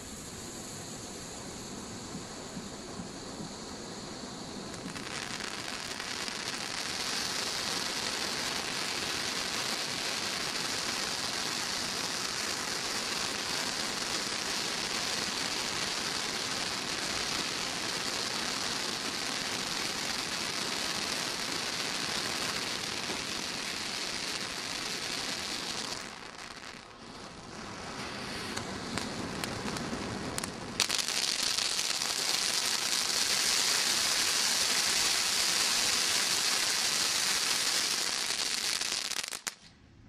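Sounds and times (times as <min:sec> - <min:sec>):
firework fountain hissing: 0:00.0 - 0:39.7.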